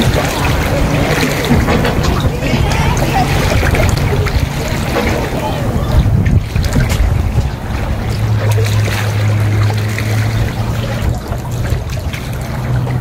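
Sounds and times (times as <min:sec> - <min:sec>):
boat engine humming: 0:00.0 - 0:13.0
water lapping: 0:00.0 - 0:13.0.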